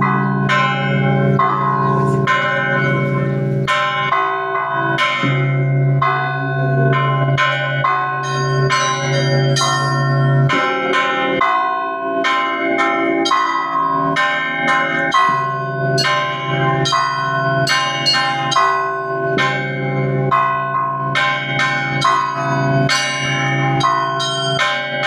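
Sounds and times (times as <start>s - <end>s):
large deep bell humming: 0.0s - 25.0s
small church bells ringing: 0.0s - 25.0s.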